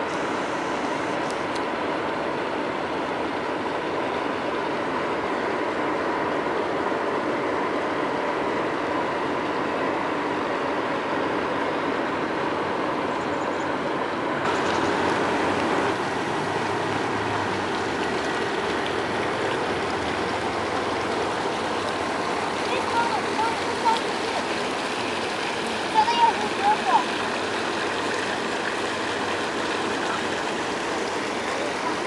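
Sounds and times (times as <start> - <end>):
fountain water splashing: 0.0 - 13.1, 14.4 - 32.0.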